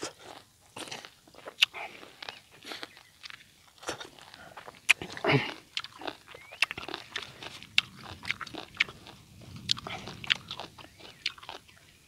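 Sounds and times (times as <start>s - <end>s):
chewing crunches: 0.0s - 12.0s.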